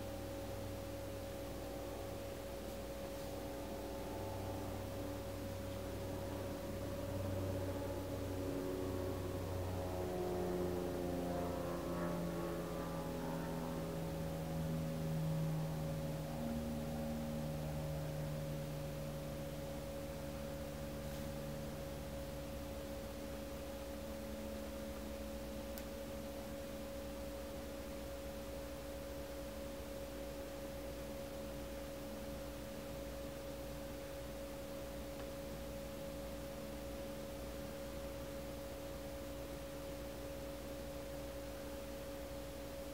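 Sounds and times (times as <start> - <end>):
pure-tone drone: 0.0 - 42.9.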